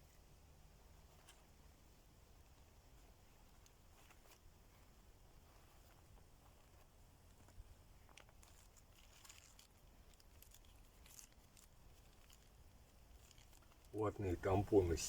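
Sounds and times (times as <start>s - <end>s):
faint rustles: 0.0s - 15.0s.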